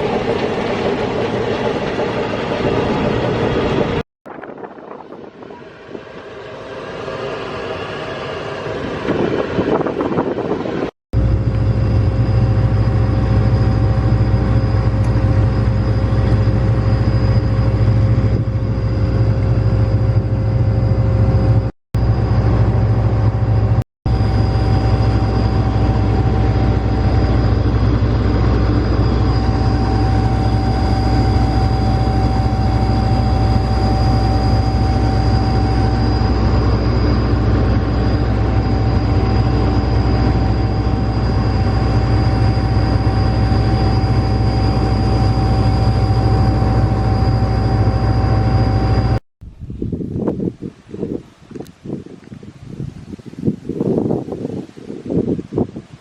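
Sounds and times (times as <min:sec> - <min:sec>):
diesel machine droning with whine: 0:00.0 - 0:50.2.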